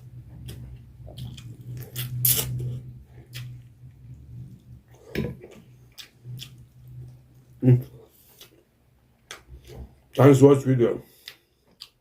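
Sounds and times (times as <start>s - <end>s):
low steady hum: 0.0s - 12.0s
person chewing food: 0.1s - 10.1s, 11.1s - 12.0s.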